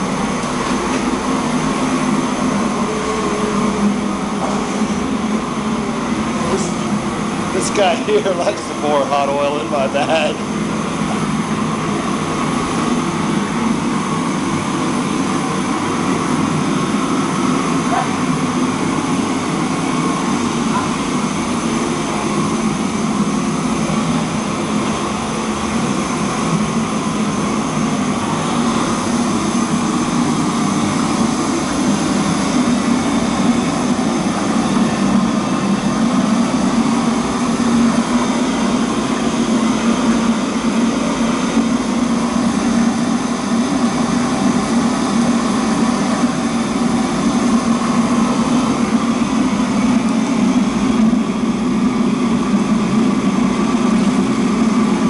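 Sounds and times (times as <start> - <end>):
gas wok burners roaring: 0.0 - 55.0.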